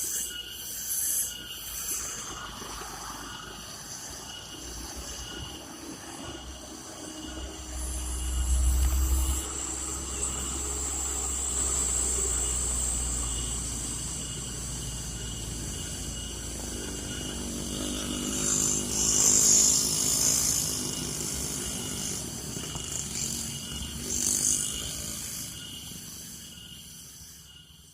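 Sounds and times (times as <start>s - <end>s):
heavy truck diesel engine labouring: 2.5s - 25.8s.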